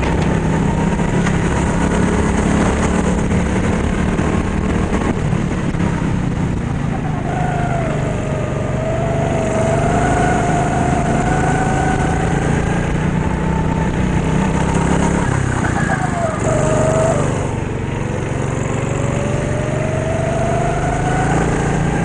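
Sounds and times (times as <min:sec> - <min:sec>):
go-kart engine whining: 0:00.0 - 0:22.0.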